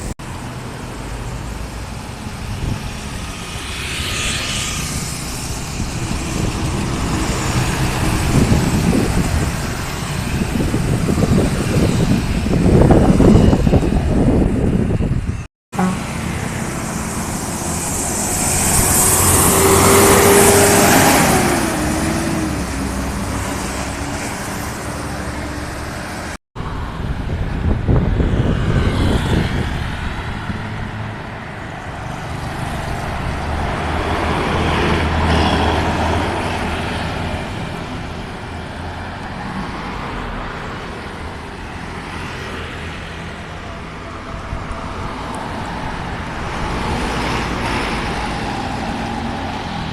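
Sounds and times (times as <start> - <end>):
vehicles passing close by: 0.0 - 49.9.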